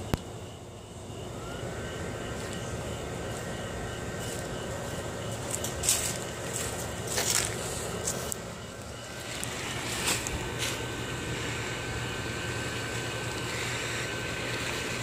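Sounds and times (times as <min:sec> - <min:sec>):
blower fan whirring: 0:00.0 - 0:15.0.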